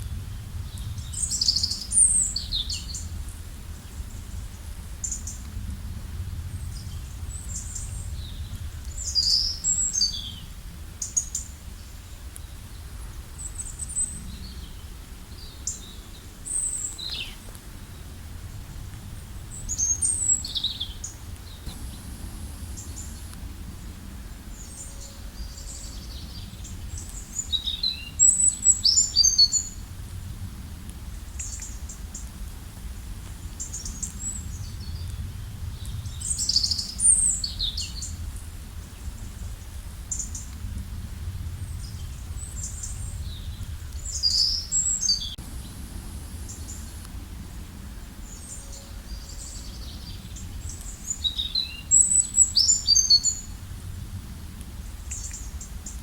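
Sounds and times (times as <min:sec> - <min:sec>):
steady low rumble: 0:00.0 - 0:11.0, 0:11.8 - 0:56.0
songbirds chirping: 0:00.2 - 0:05.6, 0:06.3 - 0:30.0, 0:30.8 - 0:40.8, 0:41.4 - 0:53.7, 0:54.5 - 0:56.0.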